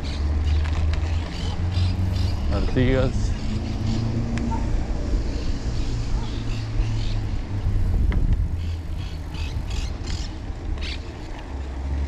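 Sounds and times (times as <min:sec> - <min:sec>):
wind and road noise rumble: 0:00.0 - 0:12.0.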